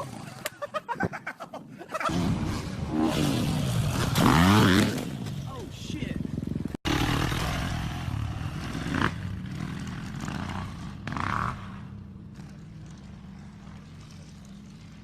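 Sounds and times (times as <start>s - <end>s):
motorcycle engine running: 2.1s - 15.0s.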